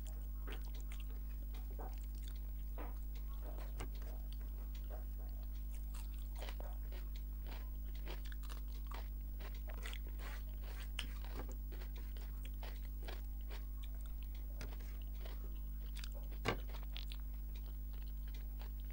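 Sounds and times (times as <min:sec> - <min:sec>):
person chewing with mouth clicks: 0:00.0 - 0:18.9
steady low hum: 0:00.0 - 0:18.9
fingers gathering rice on plate: 0:02.8 - 0:18.5.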